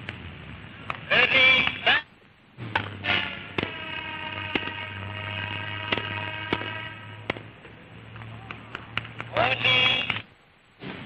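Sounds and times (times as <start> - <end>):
steady hum: 0.0 - 10.8.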